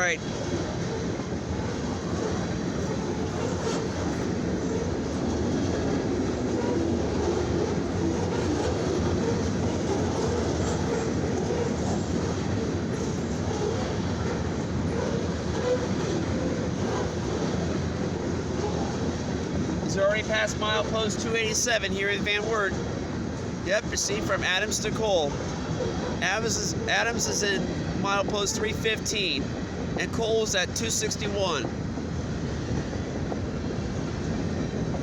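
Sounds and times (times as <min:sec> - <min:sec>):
freight train rolling past: 0:00.0 - 0:35.0
rail cars rattling and clacking: 0:00.0 - 0:35.0.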